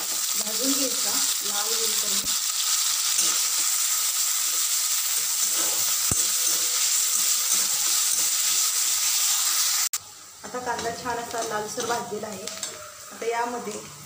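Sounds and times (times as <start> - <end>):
onion sizzling in hot oil: 0.0 - 14.0.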